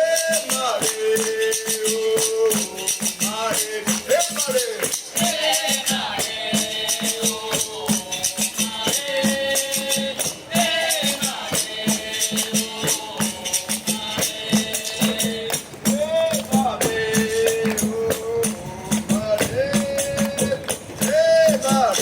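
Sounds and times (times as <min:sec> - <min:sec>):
hand percussion beat with jingling: 0:00.0 - 0:22.0
voices singing long notes: 0:00.0 - 0:22.0.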